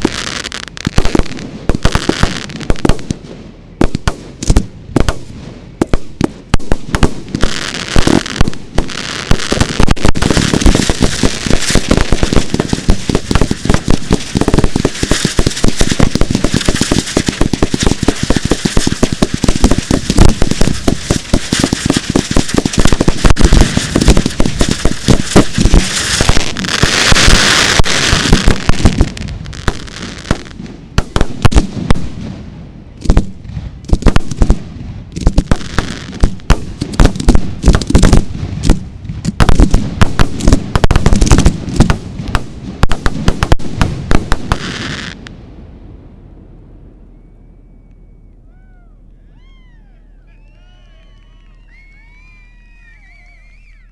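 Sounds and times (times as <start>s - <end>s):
fireworks bangs and crackling: 0.0s - 45.8s.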